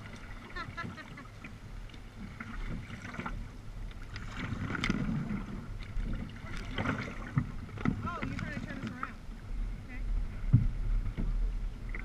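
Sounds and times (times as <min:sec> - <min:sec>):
kayak paddles splashing: 0:00.0 - 0:12.0
wind rumble on microphone: 0:00.0 - 0:12.0.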